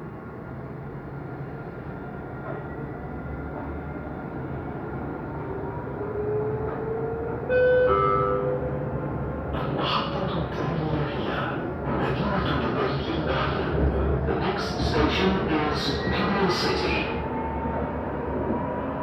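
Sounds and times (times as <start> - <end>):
tram rolling noise: 0.0 - 19.0.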